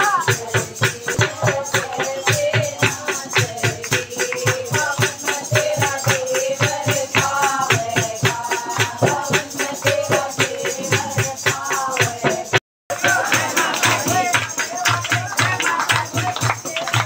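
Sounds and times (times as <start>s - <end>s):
hand-claps: 0.0s - 12.3s, 12.9s - 17.0s
rattling percussion: 0.0s - 17.0s
voices singing: 0.0s - 17.0s.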